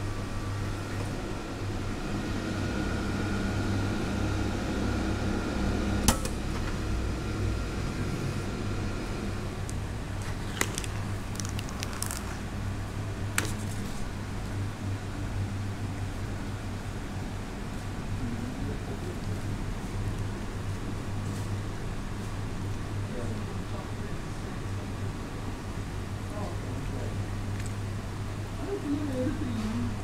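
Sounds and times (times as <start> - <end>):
vending machine hum: 0.0 - 30.0.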